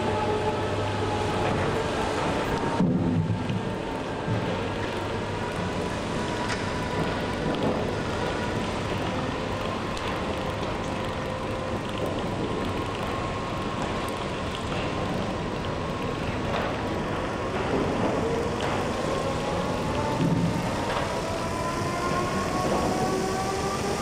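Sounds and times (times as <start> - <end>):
faint machine whine: 0.0 - 24.0
heavy machine driving: 0.0 - 24.0.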